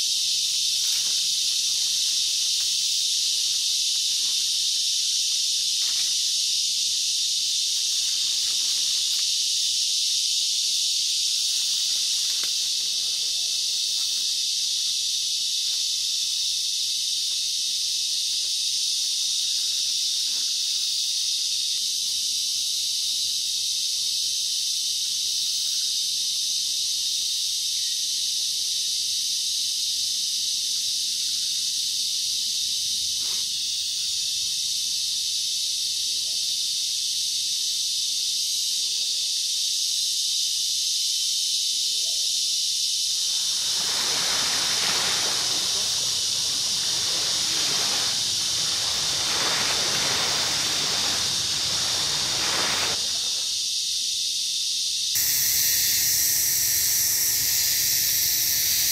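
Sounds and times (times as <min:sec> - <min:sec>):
insect chorus drone: 0:00.0 - 0:58.9.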